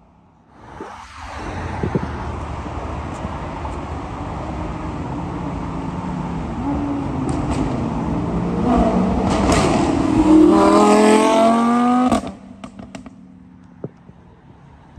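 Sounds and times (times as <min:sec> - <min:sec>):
sports car accelerating past: 0:00.6 - 0:13.4.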